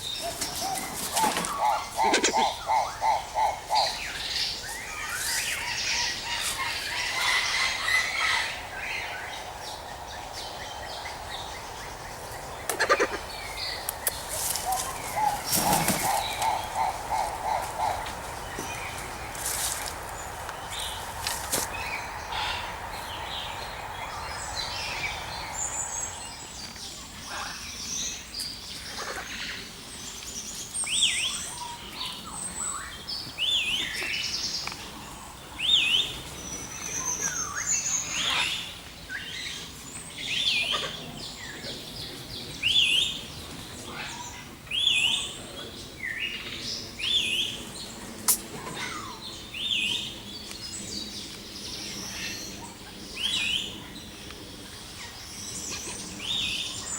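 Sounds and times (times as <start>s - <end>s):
birds chirping and calling: 0.0s - 56.9s.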